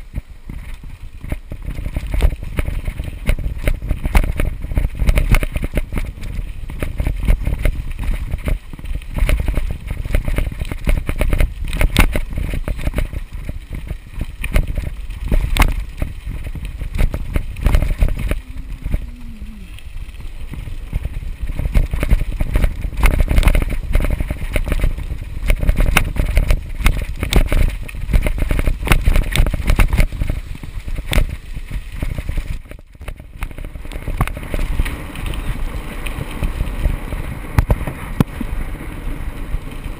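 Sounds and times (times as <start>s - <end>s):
bike rattling and knocking: 0.0s - 39.9s
wind rumbling on microphone: 0.0s - 39.9s.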